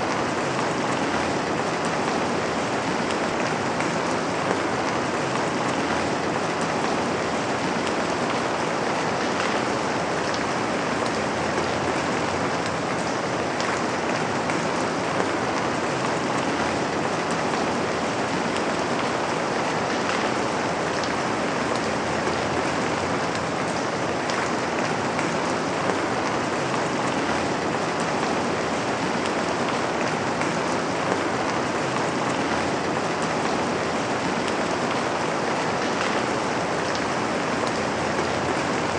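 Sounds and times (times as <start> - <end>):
rain on a window: 0.0 - 38.9.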